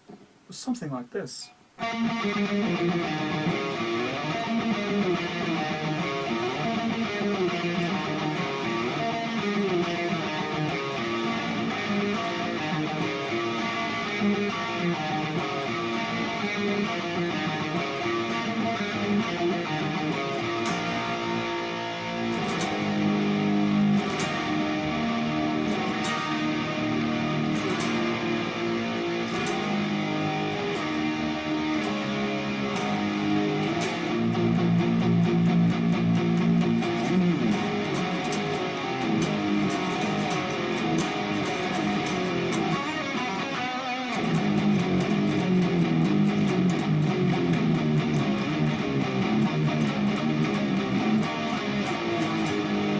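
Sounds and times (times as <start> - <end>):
electric guitar chords and riffs: 1.8 - 52.9.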